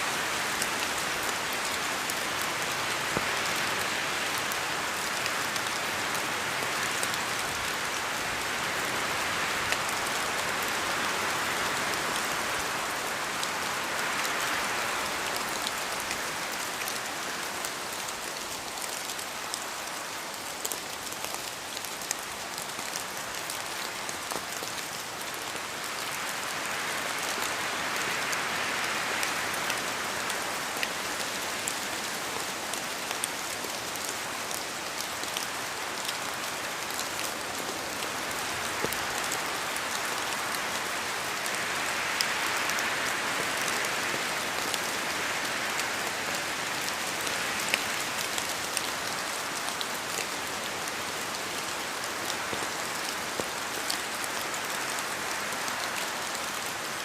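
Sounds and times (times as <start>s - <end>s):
steady rain in a forest: 0.0s - 57.0s.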